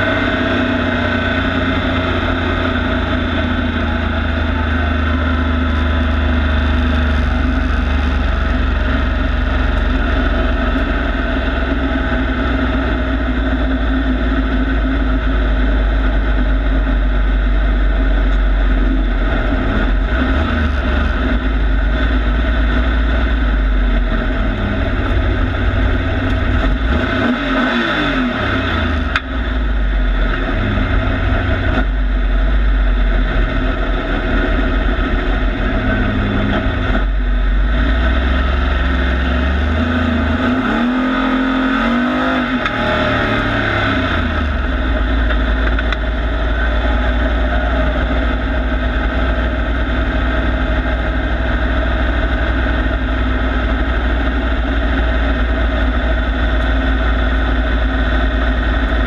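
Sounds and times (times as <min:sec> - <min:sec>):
truck engine: 0:00.0 - 0:59.0.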